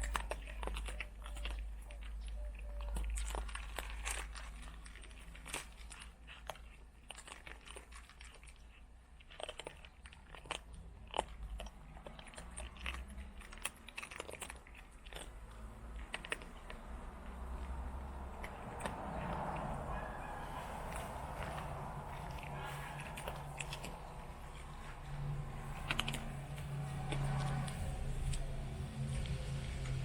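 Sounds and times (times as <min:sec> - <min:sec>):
cat crunching dry food: 0:00.0 - 0:30.0.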